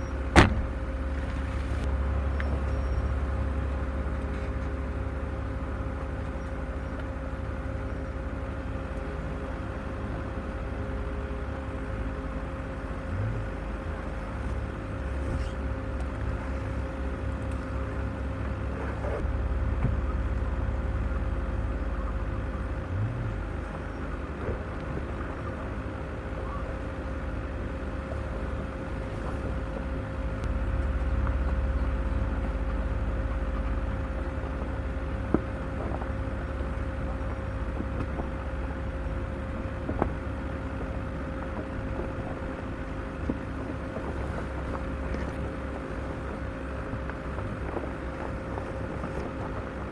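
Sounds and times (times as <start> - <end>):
constant higher hum: 0.0 - 49.9
vehicle engine and tyre rumble: 0.0 - 49.9.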